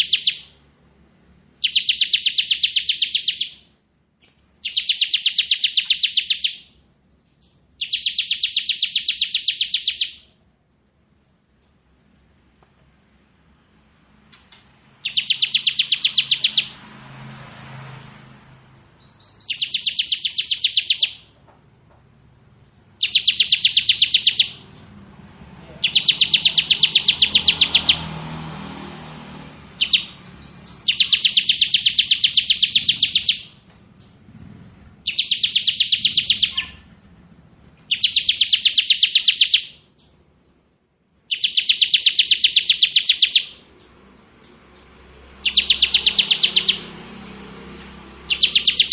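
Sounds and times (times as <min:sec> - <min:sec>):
bird singing rapid drilling trill: 0:00.0 - 0:03.8, 0:04.6 - 0:10.4, 0:14.8 - 0:21.4, 0:22.0 - 0:48.9.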